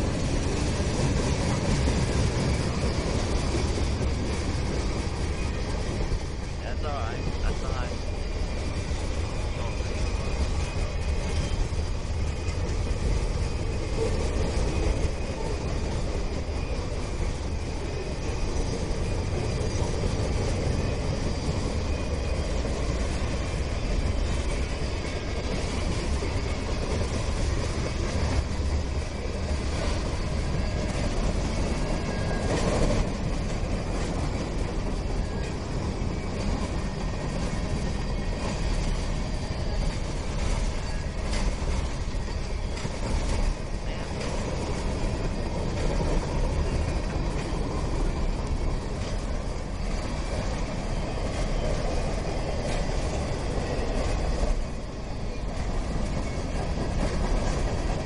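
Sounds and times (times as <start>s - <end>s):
train clattering: 0.0s - 58.0s
train wheels rumbling on rails: 0.0s - 58.0s.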